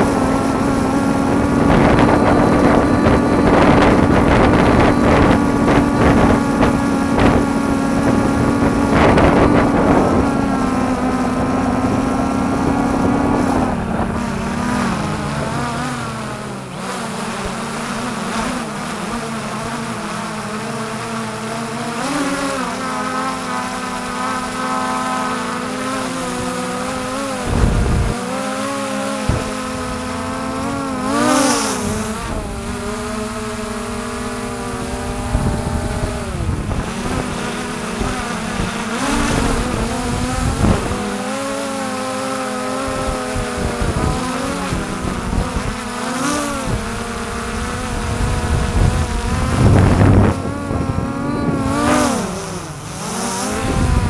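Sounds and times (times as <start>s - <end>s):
wind on microphone: 0.0s - 18.6s, 19.9s - 54.0s
drone propellers buzzing: 0.0s - 54.0s.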